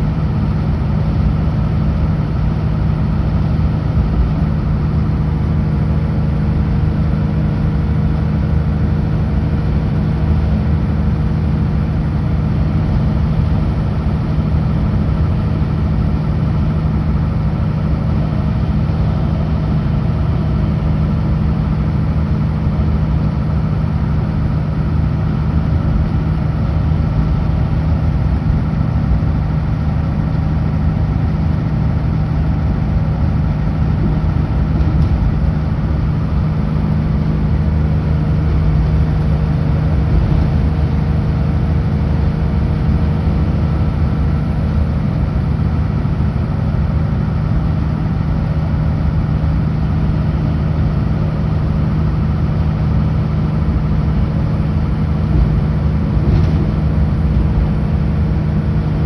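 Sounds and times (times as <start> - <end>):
road and tyre noise: 0.0 - 59.0
truck diesel engine running: 0.0 - 59.0.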